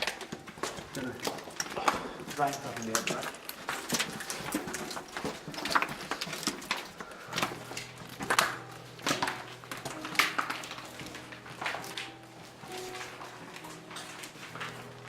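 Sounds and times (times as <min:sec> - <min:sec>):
footsteps crunching over debris: 0:00.0 - 0:15.0.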